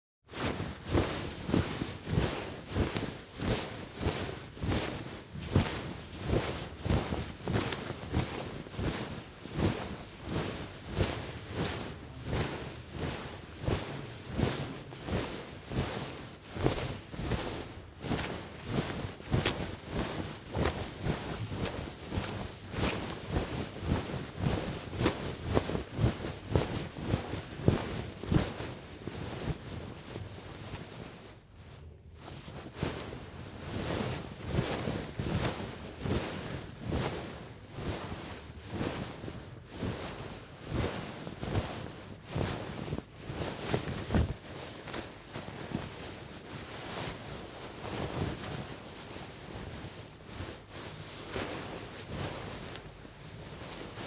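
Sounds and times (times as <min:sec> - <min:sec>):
clothing rustling while walking: 0:00.3 - 0:54.0.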